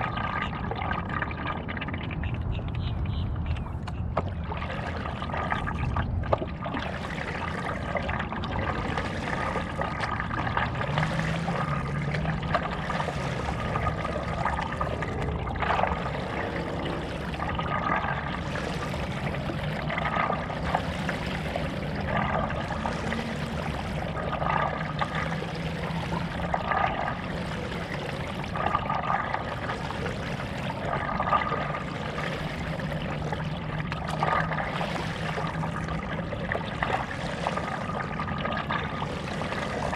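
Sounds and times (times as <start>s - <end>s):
paddle strokes splashing in water: 0.0s - 39.9s
steady low hum: 0.0s - 39.9s.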